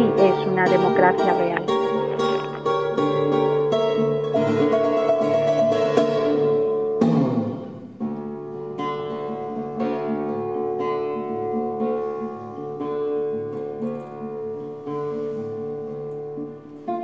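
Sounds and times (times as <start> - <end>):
guitar plucked and strummed: 0.0 - 17.0.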